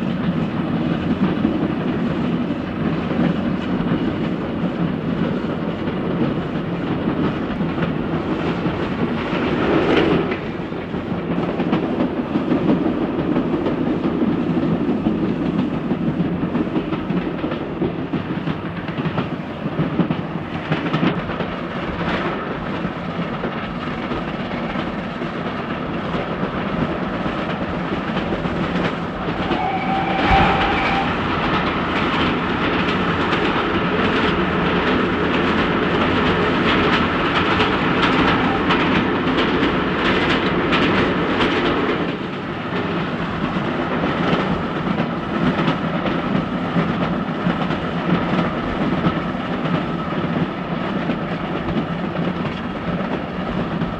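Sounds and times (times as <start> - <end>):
train wheels clicking over rail joints: 0.0 - 53.9.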